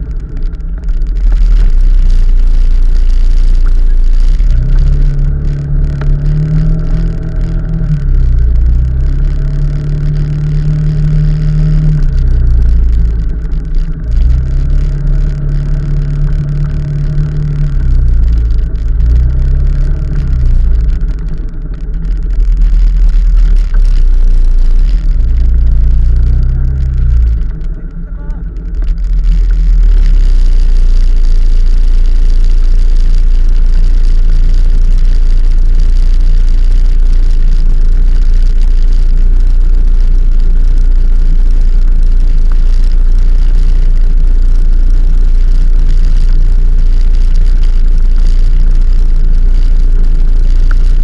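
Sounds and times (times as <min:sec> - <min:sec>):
road and wind rumble: 0:00.0 - 0:51.0
vehicle engine revving: 0:00.0 - 0:51.0.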